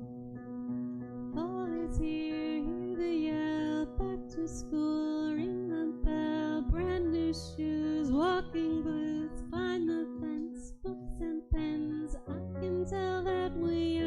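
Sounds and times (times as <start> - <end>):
woman singing a slow song: 1.3 - 14.0.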